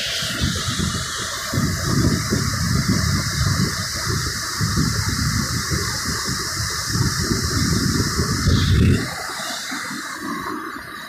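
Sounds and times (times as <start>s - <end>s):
river rapids rushing over boulders: 0.0s - 11.0s.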